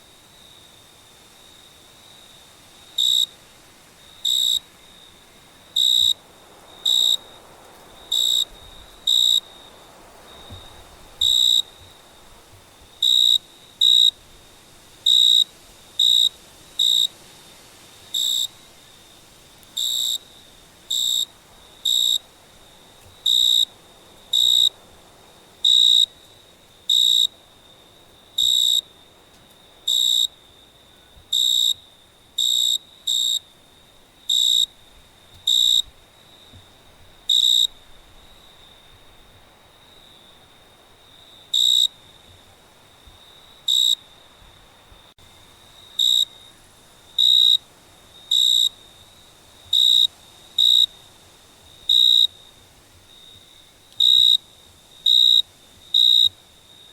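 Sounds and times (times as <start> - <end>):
cricket chirping: 0.0 - 56.9
faint steady hiss: 0.0 - 56.9.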